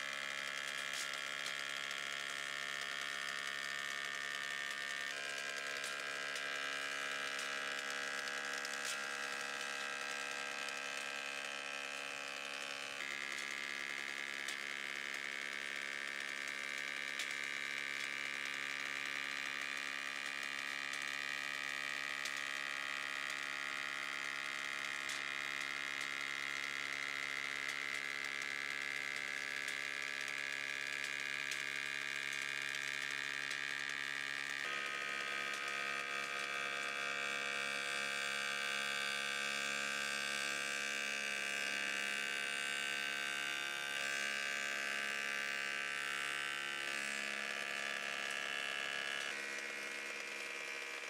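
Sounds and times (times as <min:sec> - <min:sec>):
planer machine humming: 0:00.0 - 0:51.0.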